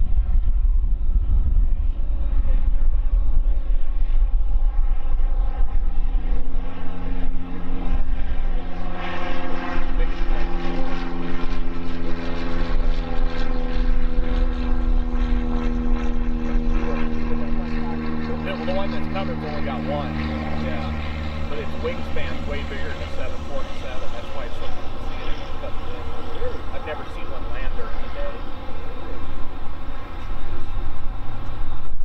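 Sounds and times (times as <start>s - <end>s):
engine tone climbing in pitch: 0.0s - 32.0s
jet engine deep rumble: 0.0s - 32.0s
jet roar: 0.0s - 32.0s.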